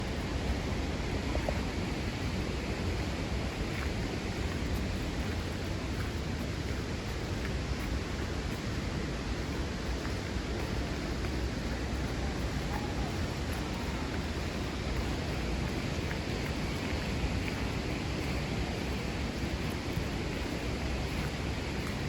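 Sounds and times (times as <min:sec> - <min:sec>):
rushing outdoor ambience: 0:00.0 - 0:22.0.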